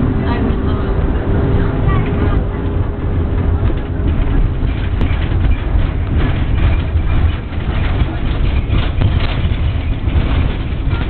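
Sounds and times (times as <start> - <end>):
tram clatter: 0.0 - 11.0
tram rumbling on track: 0.0 - 11.0.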